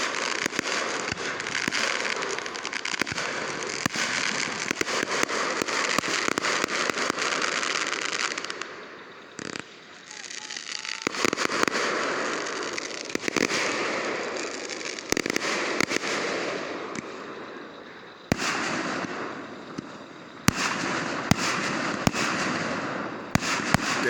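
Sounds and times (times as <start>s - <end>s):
crackling fizz of firework shells: 0.0s - 24.0s
firework bangs: 0.0s - 24.0s.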